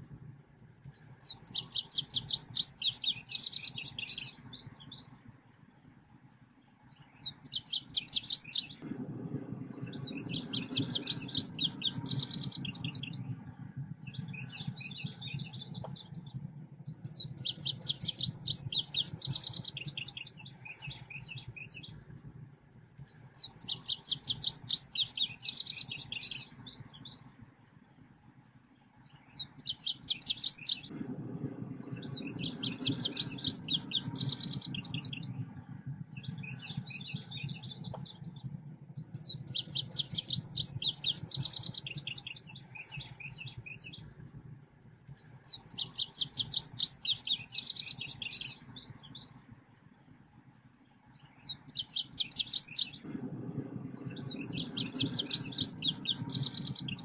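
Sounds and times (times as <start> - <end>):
low steady hum: 0.0 - 57.0
bird chirping trills: 0.9 - 5.6, 6.6 - 22.2, 23.0 - 28.1, 28.7 - 50.0, 50.7 - 57.0.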